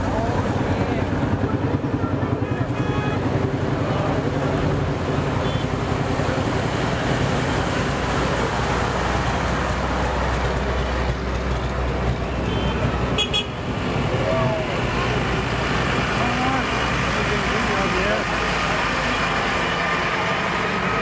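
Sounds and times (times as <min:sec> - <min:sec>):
truck engine: 0:00.0 - 0:21.0.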